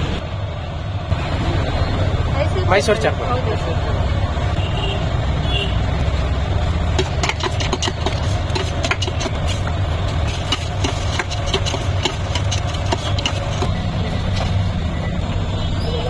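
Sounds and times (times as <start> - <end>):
idling vehicle engines: 0.0 - 16.0.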